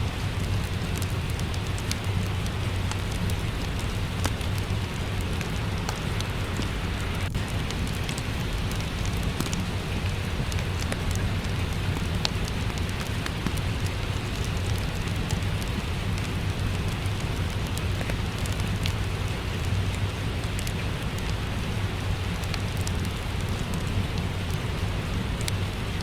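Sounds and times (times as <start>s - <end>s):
fire crackling and popping: 0.0s - 26.0s
steady rain: 0.0s - 26.0s.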